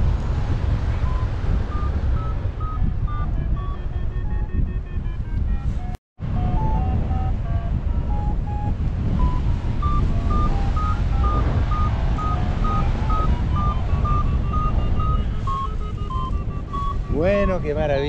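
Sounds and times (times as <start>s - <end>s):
variometer beeping: 0.0s - 18.0s
wind rumble on microphone: 0.0s - 18.0s.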